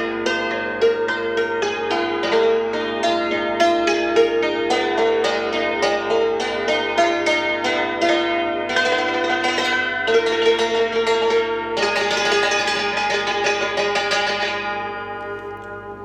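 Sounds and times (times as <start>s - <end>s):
hammered dulcimer notes: 0.0s - 16.0s.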